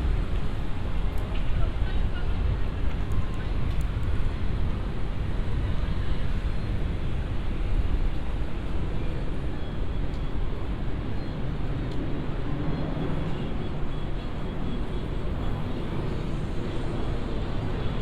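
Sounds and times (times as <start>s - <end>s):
traffic rumble: 0.0s - 18.0s
urban noise: 0.0s - 18.0s.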